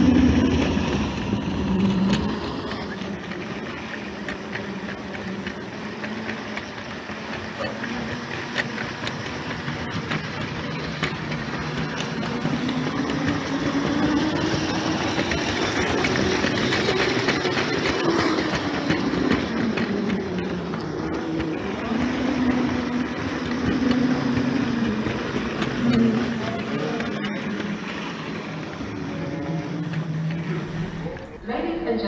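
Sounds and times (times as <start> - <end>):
subway train running: 0.0 - 32.0
train motor whine: 0.0 - 32.0
wheels clicking on rails: 0.0 - 32.0.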